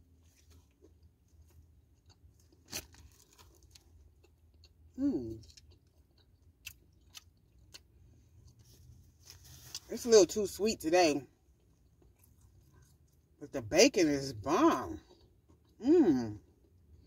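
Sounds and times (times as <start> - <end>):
person chewing sandwich: 0.0 - 9.9, 11.4 - 13.4, 15.0 - 17.0.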